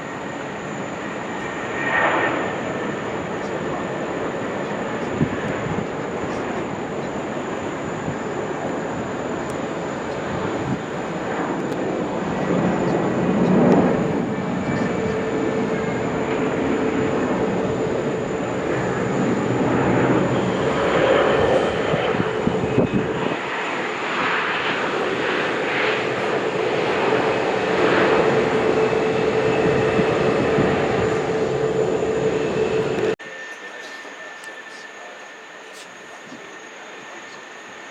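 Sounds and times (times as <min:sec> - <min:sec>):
jet airliner engines running: 0:00.0 - 0:37.9.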